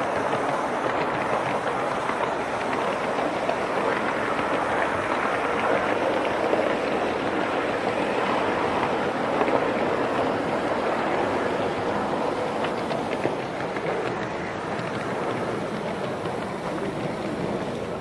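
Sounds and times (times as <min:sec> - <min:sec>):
model steam train hissing: 0:00.0 - 0:18.0.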